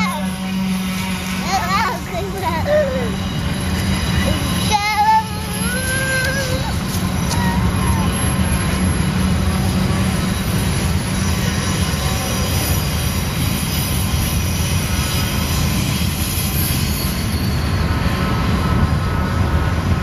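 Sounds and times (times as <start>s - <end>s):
faint wheel squealing: 0.0s - 18.8s
train wheels rumbling on rails: 0.0s - 20.0s.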